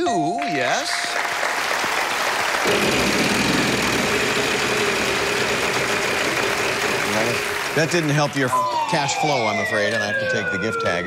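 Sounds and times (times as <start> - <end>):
audience applause and cheering: 0.4 - 9.8.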